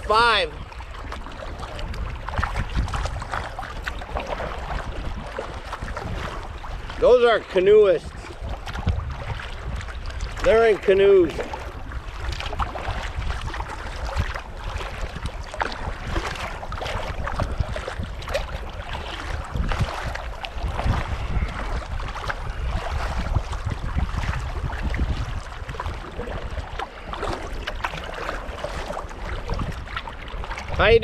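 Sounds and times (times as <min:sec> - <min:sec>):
kayak paddles splashing: 0:00.0 - 0:31.0
water lapping at hull: 0:00.0 - 0:31.0
wind on microphone: 0:00.0 - 0:31.0.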